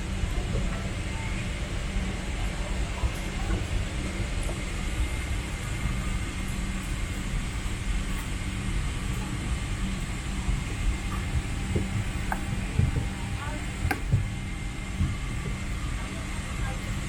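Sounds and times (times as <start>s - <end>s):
cabin ventilation rumble and hiss: 0.0s - 17.0s.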